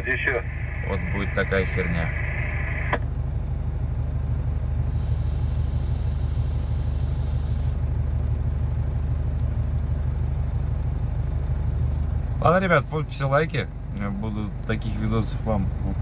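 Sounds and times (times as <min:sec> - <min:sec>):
truck diesel engine droning: 0:00.0 - 0:16.0.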